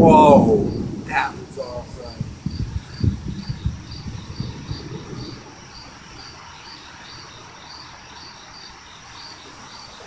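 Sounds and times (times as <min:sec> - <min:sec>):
faint steady hiss: 0:00.0 - 0:10.0
night insects chirping: 0:00.0 - 0:10.0.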